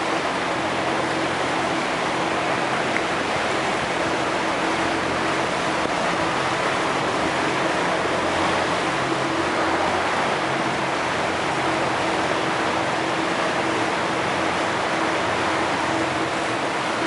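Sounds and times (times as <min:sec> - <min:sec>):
boat engine hum: 0:00.0 - 0:17.0
water rushing along hull: 0:00.0 - 0:17.0.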